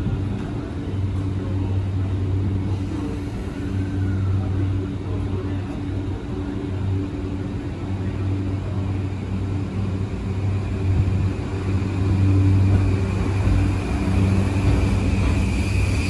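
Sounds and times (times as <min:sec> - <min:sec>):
electric train humming: 0:00.0 - 0:16.0
rising train whine: 0:00.0 - 0:16.0
train rumble: 0:00.0 - 0:16.0.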